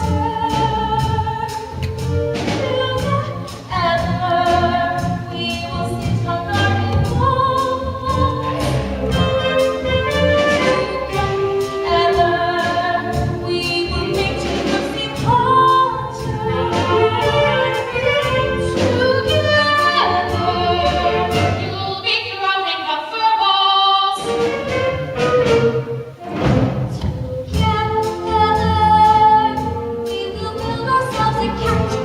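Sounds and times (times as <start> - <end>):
instrumental accompaniment: 0.0 - 22.8, 23.4 - 32.0.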